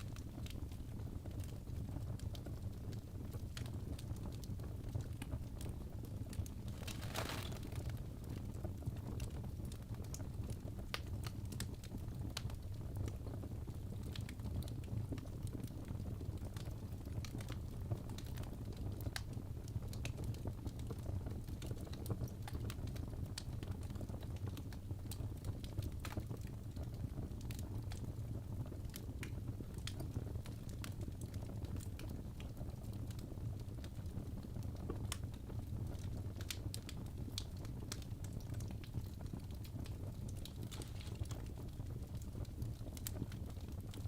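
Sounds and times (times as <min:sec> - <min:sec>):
low rumble of flames: 0:00.0 - 0:44.0
wood fire crackling: 0:00.1 - 0:44.0.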